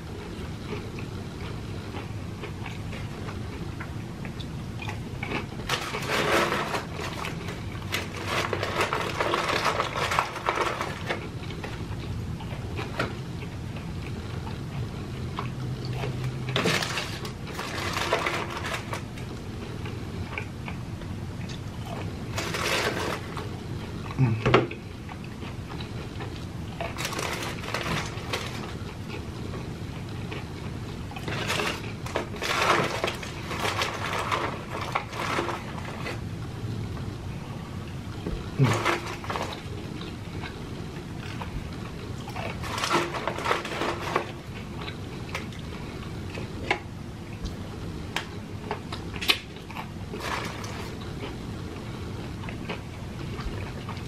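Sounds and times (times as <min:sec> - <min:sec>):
crunchy chewing of fried food: 0:00.0 - 0:54.0.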